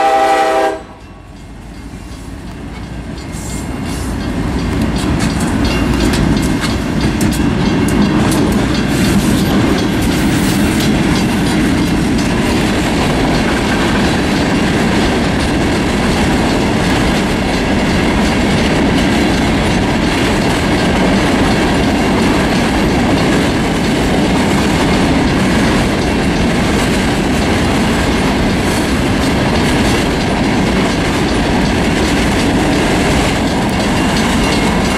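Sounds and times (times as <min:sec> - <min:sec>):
diesel locomotives passing: 0:00.0 - 0:34.9
train rumble: 0:00.0 - 0:34.9
wheels clicking over rail joints: 0:01.3 - 0:34.9.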